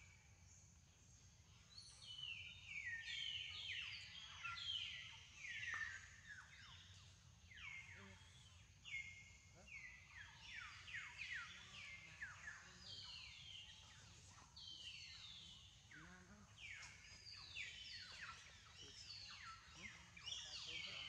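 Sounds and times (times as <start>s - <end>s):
birds whistling: 1.8s - 15.9s, 16.6s - 21.0s.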